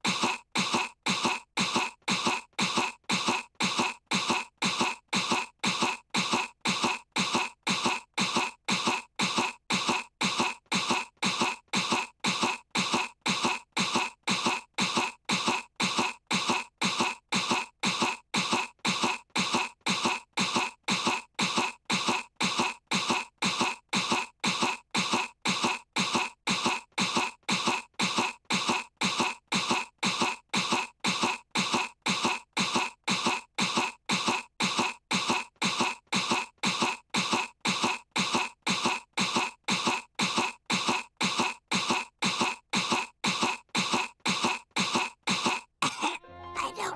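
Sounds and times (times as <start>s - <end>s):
girl fake coughing: 0.0s - 46.9s.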